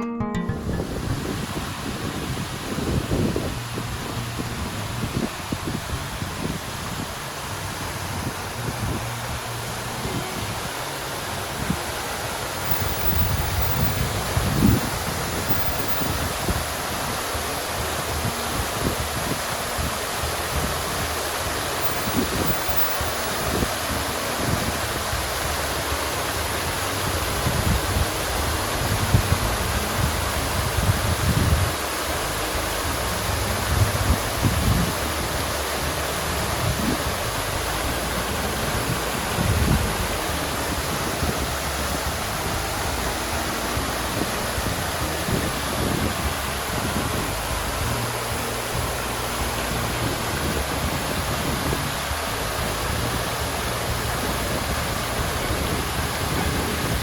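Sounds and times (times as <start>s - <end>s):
fountain water splashing: 1.2s - 57.0s.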